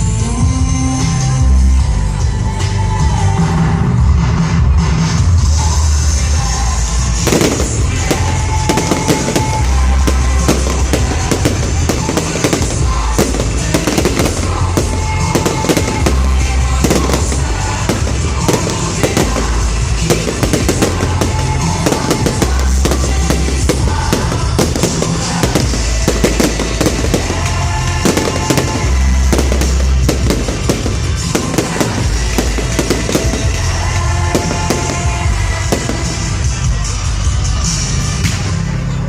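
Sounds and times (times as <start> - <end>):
loud music with heavy bass: 0.0 - 39.0
fireworks bursting and crackling: 5.6 - 37.0.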